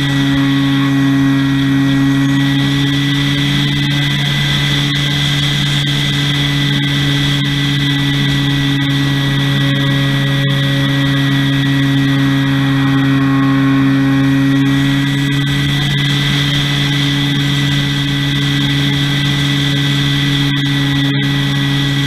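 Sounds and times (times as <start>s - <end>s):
high engine whine: 0.0s - 22.0s
plane propeller engine humming: 0.0s - 22.0s
rushing air noise: 0.0s - 22.0s.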